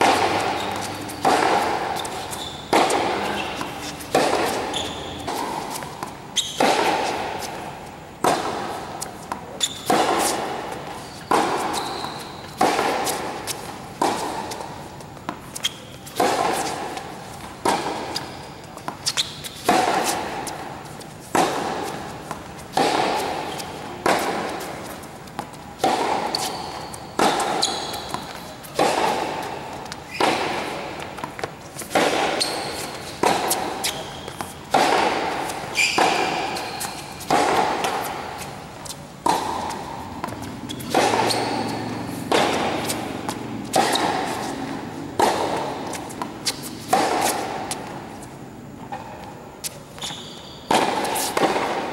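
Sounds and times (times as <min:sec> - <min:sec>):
tennis ball hit by racquets: 0:00.0 - 0:51.9.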